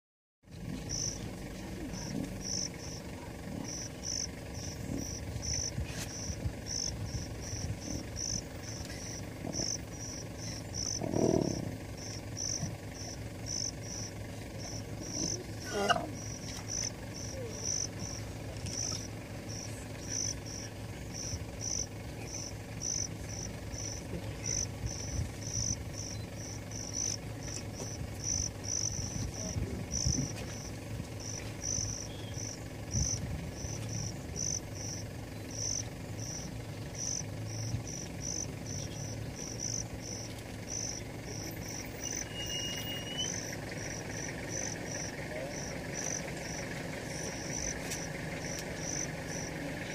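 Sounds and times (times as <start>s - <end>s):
low steady hum: 0.5s - 49.9s
insect chirping: 0.8s - 49.9s.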